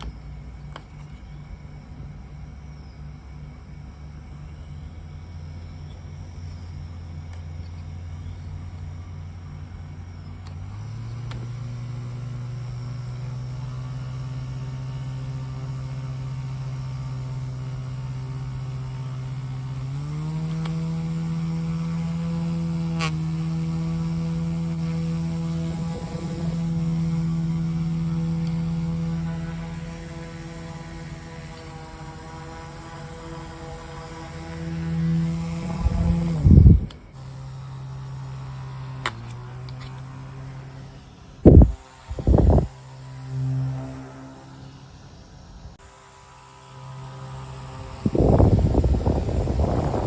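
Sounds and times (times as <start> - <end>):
portable fan humming: 0.0 - 50.0.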